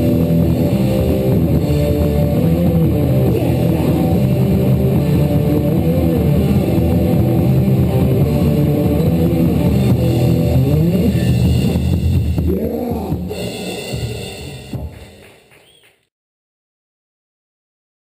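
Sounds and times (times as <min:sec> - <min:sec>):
bass guitar: 0:00.0 - 0:15.2
distorted electric guitar: 0:00.0 - 0:15.3
drum kit: 0:00.0 - 0:16.0.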